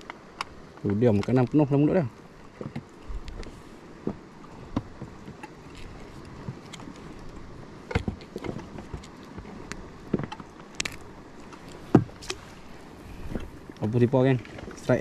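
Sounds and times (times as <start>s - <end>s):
knocks and clicks on boat: 0.0s - 12.5s, 13.2s - 15.0s
steady background hiss: 0.0s - 15.0s.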